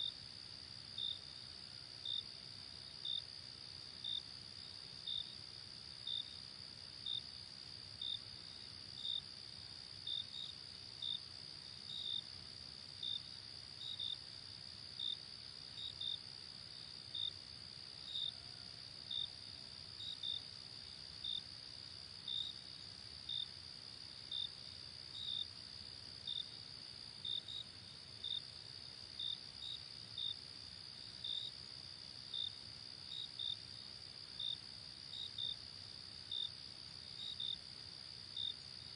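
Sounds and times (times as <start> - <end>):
cricket drone: 0.0 - 38.9
faint low background hiss: 0.0 - 38.9
single cricket chirping: 0.0 - 38.9.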